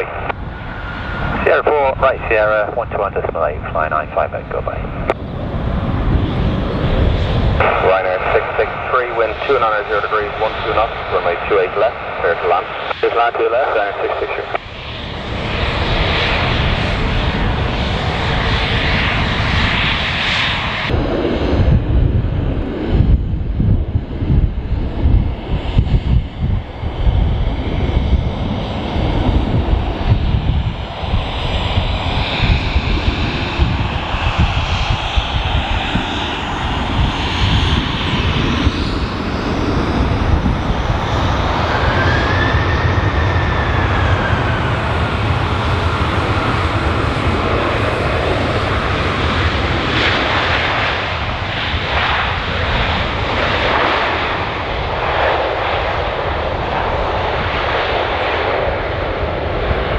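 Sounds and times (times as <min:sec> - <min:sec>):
jet engine rumble and whine: 0:00.0 - 0:59.9
wind buffeting microphone: 0:00.0 - 0:59.9.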